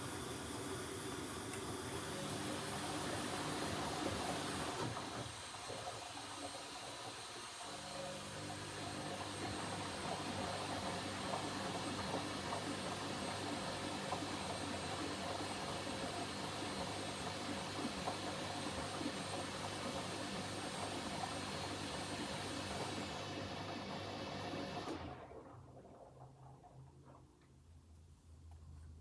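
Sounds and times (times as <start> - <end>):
washing machine rushing: 0.0 - 26.7.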